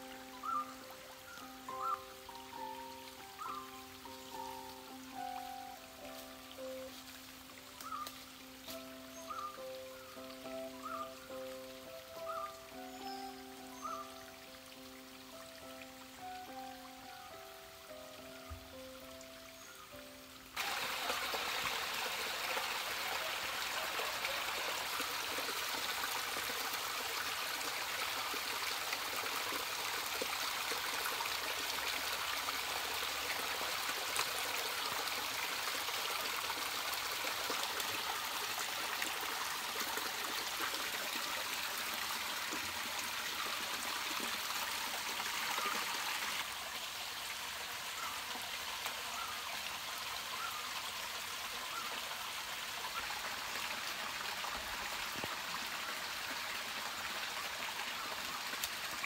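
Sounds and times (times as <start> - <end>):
spring water trickling and splashing: 0.0 - 59.0.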